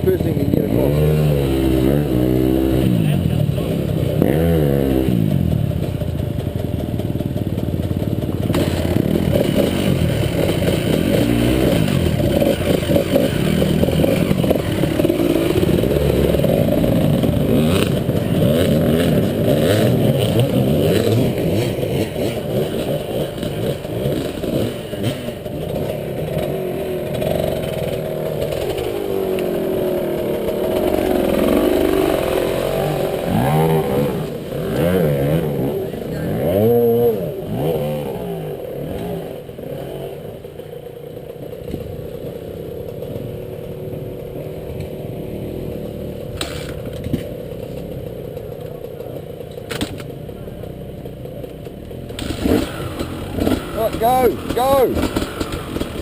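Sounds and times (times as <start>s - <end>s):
clatter: 0.0s - 56.0s
motorcycle engines revving: 0.0s - 56.0s.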